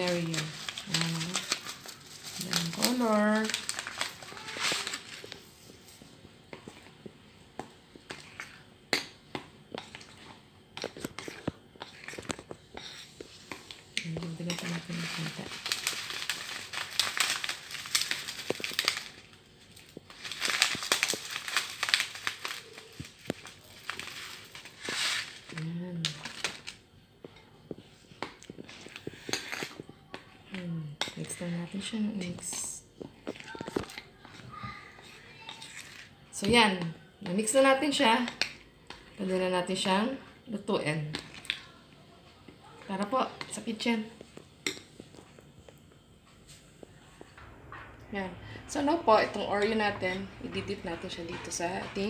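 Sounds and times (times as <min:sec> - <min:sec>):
spoon stirring thick batter: 0:00.0 - 0:47.3.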